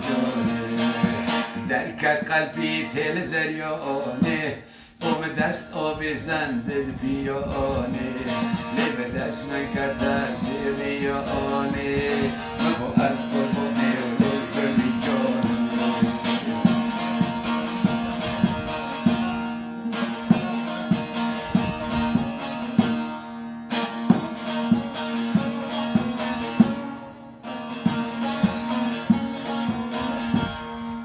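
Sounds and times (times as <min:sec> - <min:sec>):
plucked string instrument melody: 0:00.0 - 0:05.2, 0:07.3 - 0:31.0.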